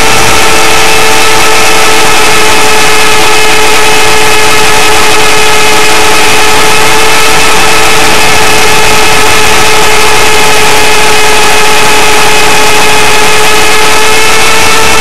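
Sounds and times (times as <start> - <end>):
electric motor whine: 0.0 - 15.0
rotor and air rush: 0.0 - 15.0.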